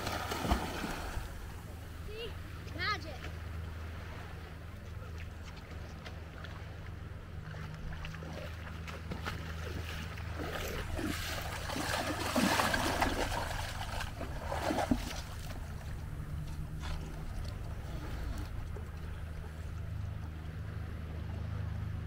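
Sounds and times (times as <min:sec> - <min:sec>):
steady low hum: 0:00.0 - 0:22.0
wading through sea water: 0:00.0 - 0:22.0.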